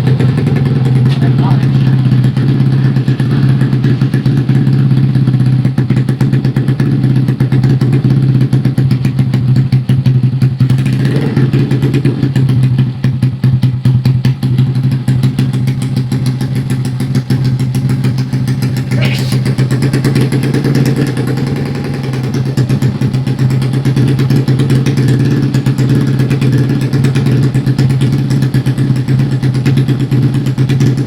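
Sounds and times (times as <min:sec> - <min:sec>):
motorcycle engine running steadily: 0:00.0 - 0:31.0.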